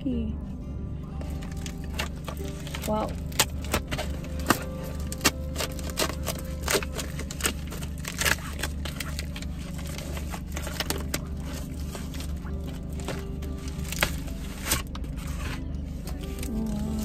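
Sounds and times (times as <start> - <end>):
steady low hum: 0.0 - 17.0
gift wrap crinkling: 1.2 - 17.0.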